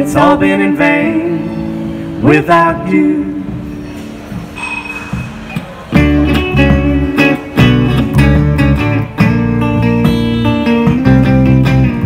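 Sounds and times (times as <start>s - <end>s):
bass guitar notes: 0.0s - 12.0s
electric guitar strumming chords: 0.0s - 12.0s.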